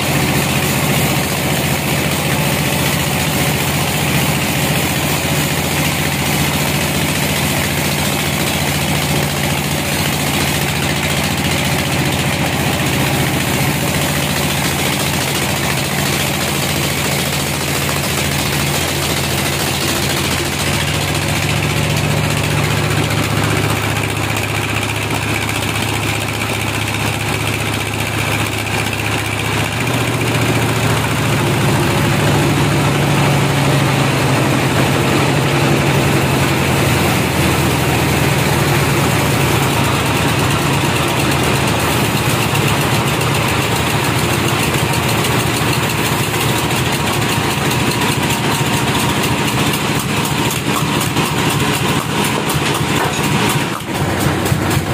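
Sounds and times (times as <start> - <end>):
band sawmill machine drone: 0.0 - 54.9.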